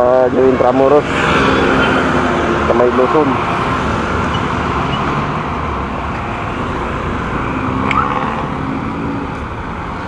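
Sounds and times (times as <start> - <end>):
motorcycle: 0.0 - 10.0
road traffic: 0.0 - 10.0.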